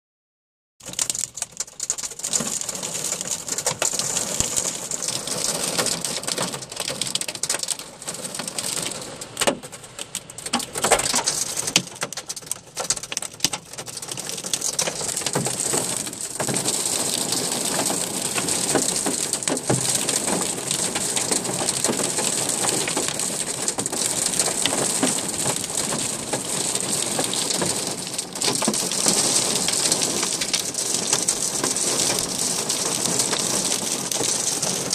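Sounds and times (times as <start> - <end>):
heavy rain pouring: 0.8 - 34.9
raindrops hitting hard surfaces: 0.8 - 34.9.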